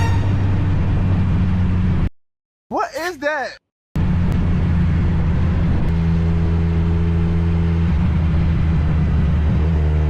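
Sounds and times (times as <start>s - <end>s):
wind and road noise: 0.0s - 2.1s, 4.0s - 10.0s.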